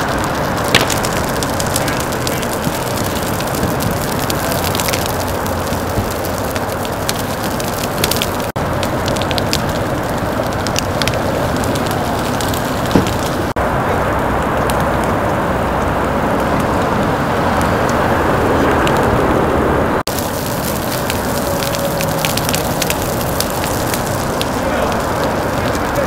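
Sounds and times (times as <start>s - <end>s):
fire crackling and popping: 0.0s - 19.4s, 20.0s - 26.0s.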